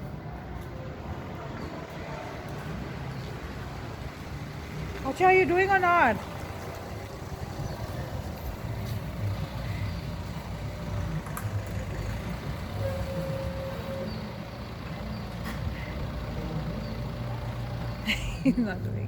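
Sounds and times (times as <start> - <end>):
large vehicle engine rumbling: 0.0 - 19.0.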